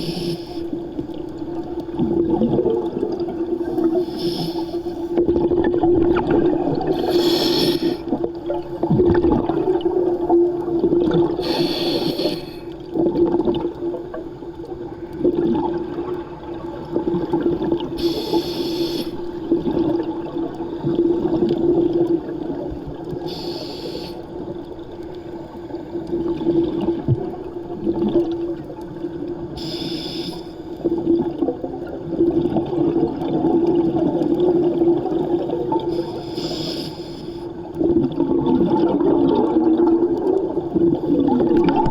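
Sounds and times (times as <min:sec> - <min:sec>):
underwater exhaled bubbles bursting: 0:00.0 - 0:23.6, 0:25.6 - 0:29.6, 0:30.8 - 0:36.6, 0:37.6 - 0:41.9.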